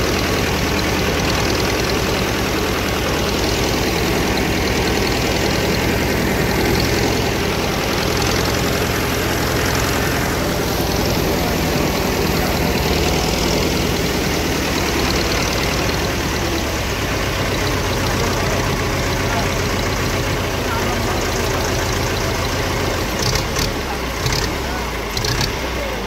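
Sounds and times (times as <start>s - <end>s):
engine running with low throb: 0.0s - 26.0s.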